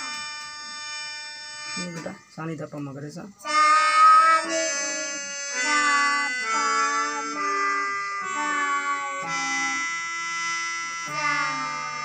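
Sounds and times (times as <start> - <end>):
electronic keyboard slow melody: 0.0 - 2.4, 3.4 - 12.0.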